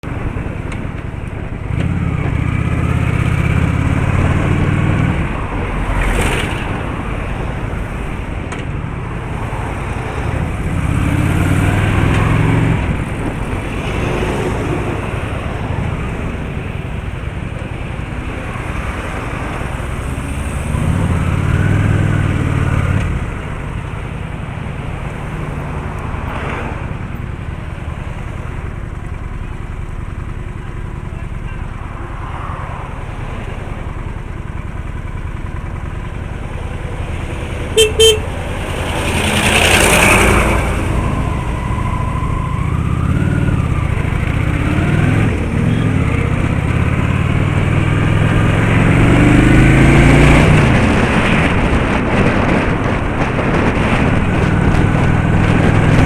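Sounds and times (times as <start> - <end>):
road traffic: 0.0 - 56.0
vehicles passing: 0.0 - 56.0.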